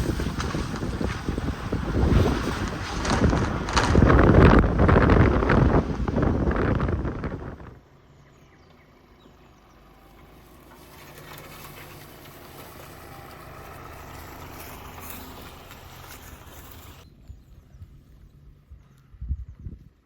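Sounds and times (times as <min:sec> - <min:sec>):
vehicle engine running: 0:00.0 - 0:19.9.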